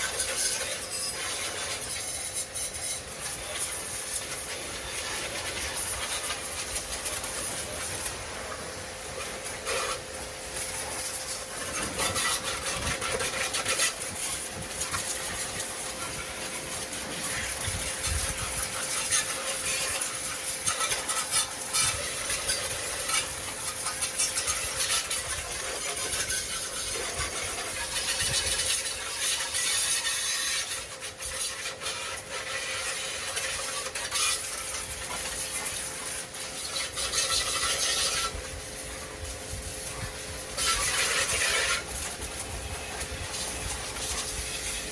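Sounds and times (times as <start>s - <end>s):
water spray hissing: 0.0s - 44.9s.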